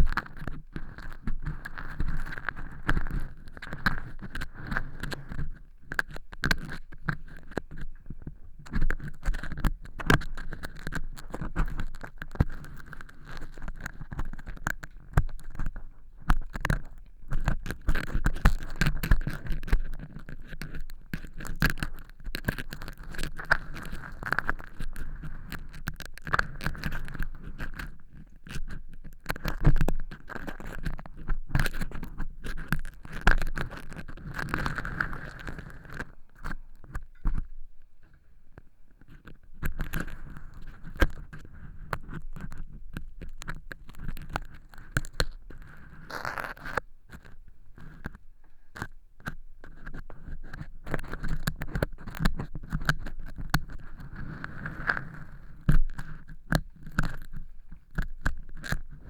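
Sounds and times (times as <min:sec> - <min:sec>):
ear pick scraping and crackling: 0:00.0 - 0:59.0.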